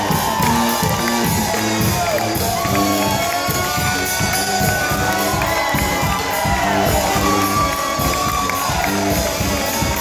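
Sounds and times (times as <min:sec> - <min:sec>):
live funk band playing: 0:00.0 - 0:10.0.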